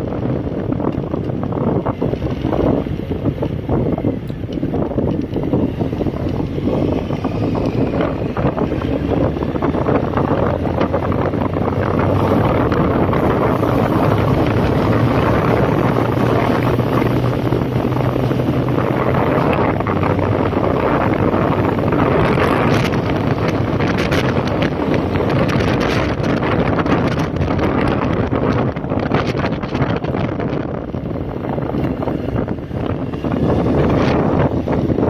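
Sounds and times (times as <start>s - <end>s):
motorcycle engine running: 0.0s - 35.0s
wind noise on microphone: 0.0s - 35.0s.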